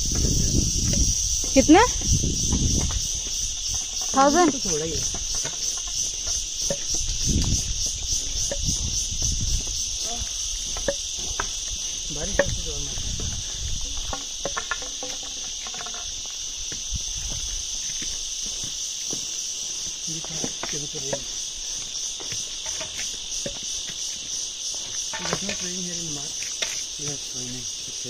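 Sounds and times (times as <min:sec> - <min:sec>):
footsteps on a path: 0:00.0 - 0:27.0
insects droning: 0:00.0 - 0:28.0.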